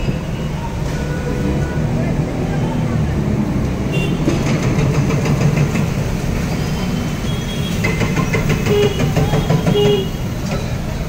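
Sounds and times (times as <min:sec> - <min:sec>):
traffic engine and road rumble: 0:00.0 - 0:11.0.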